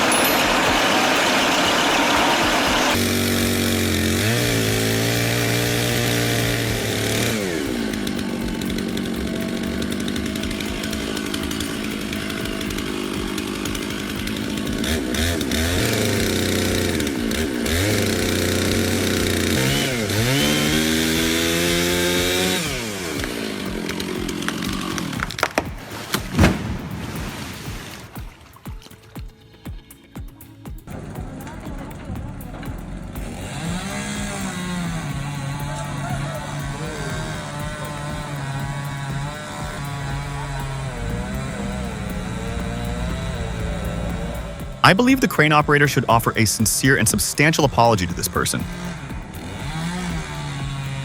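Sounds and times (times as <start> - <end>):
chainsaw engine revving: 0.0 - 26.8, 30.9 - 51.0.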